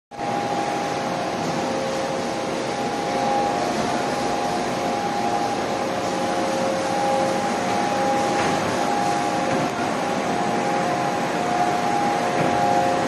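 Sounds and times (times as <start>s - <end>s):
machine whine: 0.1s - 13.0s
cutting machine hum: 0.2s - 13.0s.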